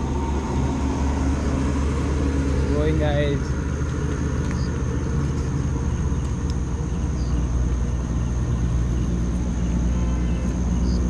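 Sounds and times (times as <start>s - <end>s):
crickets trilling: 0.0s - 11.0s
steady low rumble: 0.0s - 11.0s.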